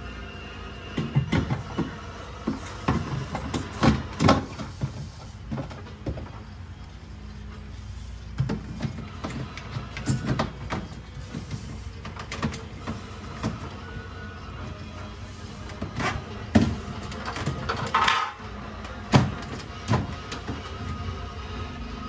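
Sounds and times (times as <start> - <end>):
containers and drawers clattering: 0.0 - 21.0
steady low hum: 0.0 - 22.0.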